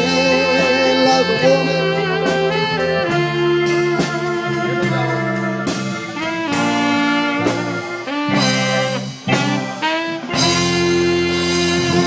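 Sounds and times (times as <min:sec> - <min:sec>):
horn-like lead line: 0:00.0 - 0:12.0
steady drum beat: 0:00.0 - 0:12.0
sustained keyboard notes: 0:00.0 - 0:12.0.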